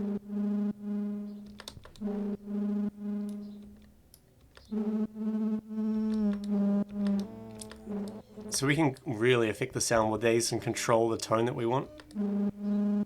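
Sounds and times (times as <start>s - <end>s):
synth bass notes: 0.0s - 3.9s, 4.6s - 13.0s.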